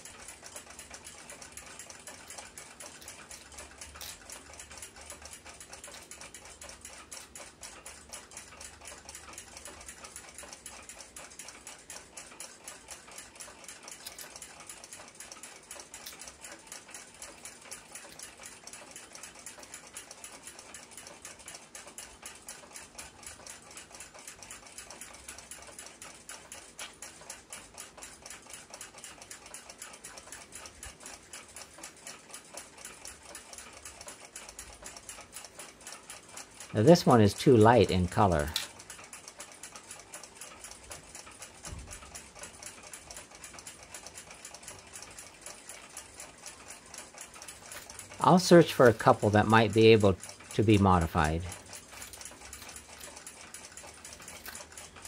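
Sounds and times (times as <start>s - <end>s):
mechanical clock ticking: 0.0s - 55.0s.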